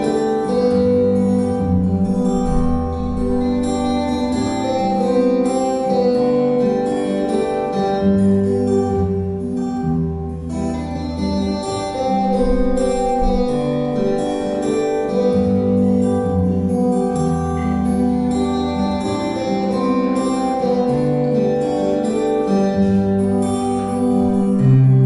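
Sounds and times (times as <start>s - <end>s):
acoustic guitar duet: 0.0s - 25.0s.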